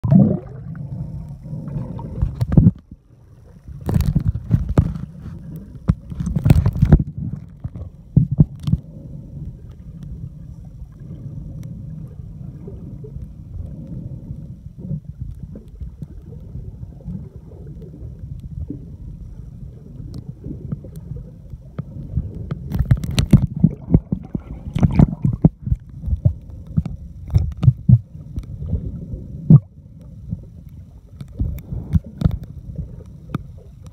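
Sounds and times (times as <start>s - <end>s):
muffled underwater rumble: 0.0s - 33.9s
splashes and bubbles: 0.0s - 33.9s.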